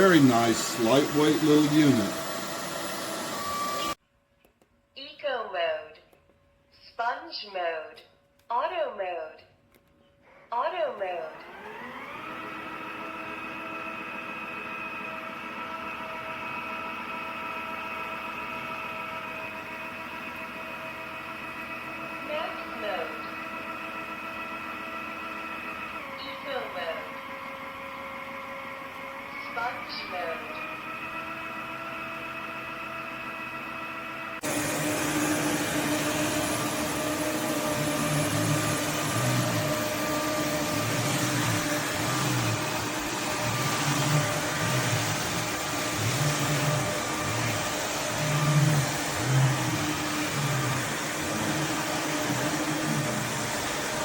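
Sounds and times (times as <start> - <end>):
vacuum mop motor whine: 0.0 - 4.0, 11.3 - 54.0.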